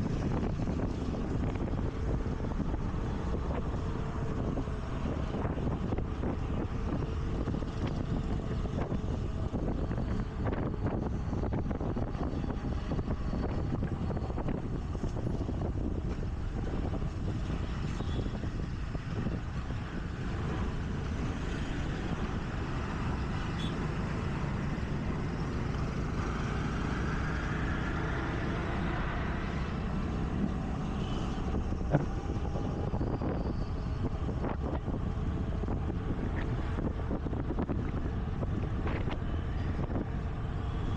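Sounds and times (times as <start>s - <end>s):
passing traffic: 0.0s - 40.9s
scooter engine and road rumble: 0.0s - 40.9s
wind on microphone: 0.0s - 40.9s.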